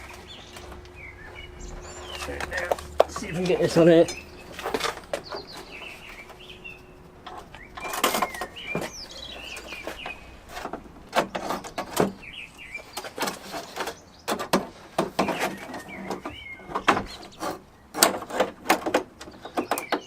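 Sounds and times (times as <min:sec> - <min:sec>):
small birds chirping: 0:00.0 - 0:18.0, 0:19.2 - 0:20.0
car bonnet knocks and clunks: 0:00.6 - 0:12.4, 0:13.0 - 0:20.0.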